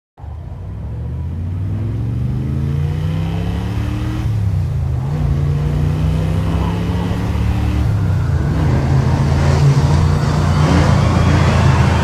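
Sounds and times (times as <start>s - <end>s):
car engine accelerating: 0.2s - 12.0s
road noise inside car: 0.2s - 12.0s.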